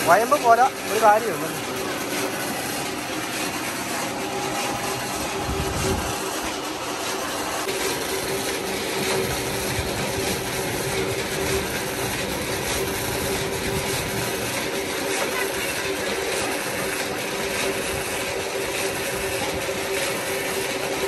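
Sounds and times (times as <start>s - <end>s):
pump motor hum: 0.0s - 21.0s
water gushing from pump outlet: 0.0s - 21.0s.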